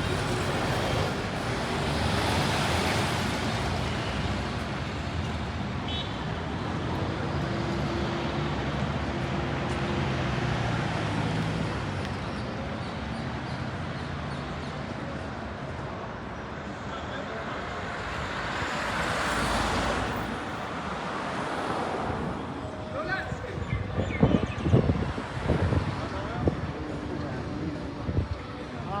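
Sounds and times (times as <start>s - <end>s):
cars and buses passing: 0.0s - 29.0s.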